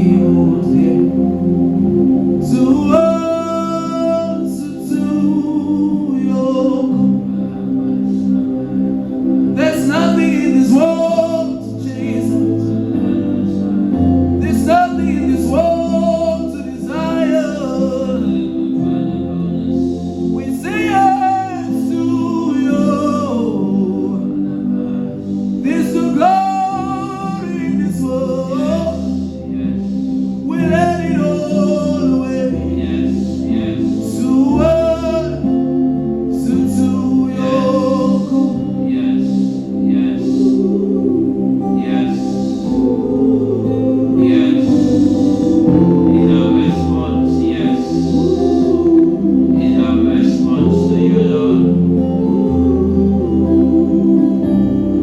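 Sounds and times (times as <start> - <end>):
person singing: 0.0 - 55.0
slow bass line: 0.0 - 55.0
sustained chords: 0.0 - 55.0.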